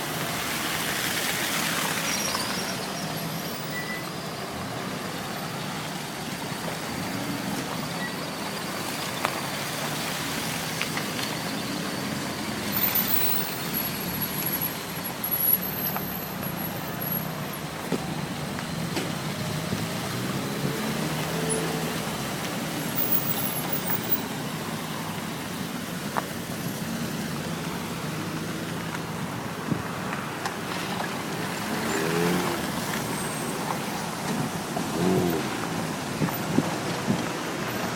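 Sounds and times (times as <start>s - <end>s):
street traffic: 0.0s - 37.9s
vehicle engines running: 0.0s - 37.9s.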